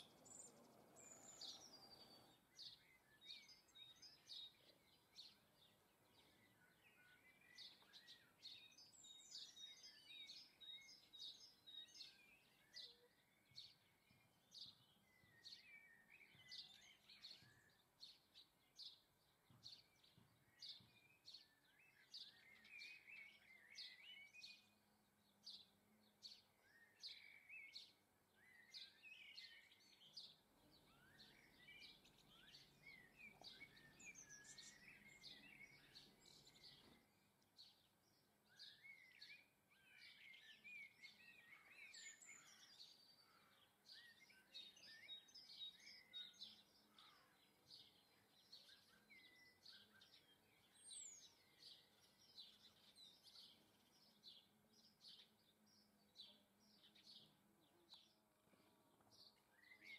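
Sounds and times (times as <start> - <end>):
birds twittering: 0.0 - 59.9
songbirds chirping: 0.0 - 59.9.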